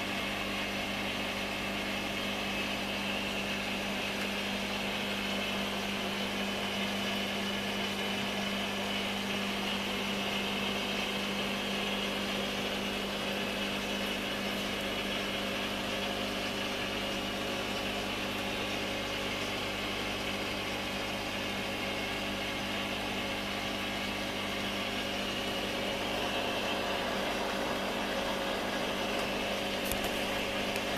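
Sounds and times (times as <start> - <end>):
steady machine hum with hiss: 0.0 - 30.9.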